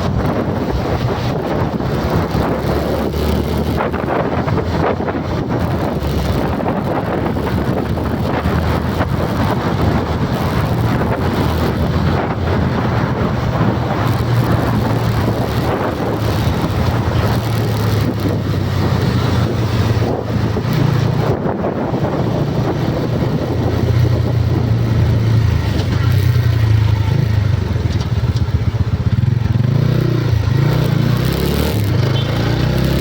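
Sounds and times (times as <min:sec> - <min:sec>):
vehicle engine running: 0:00.0 - 0:32.8
wind on microphone: 0:00.0 - 0:33.0.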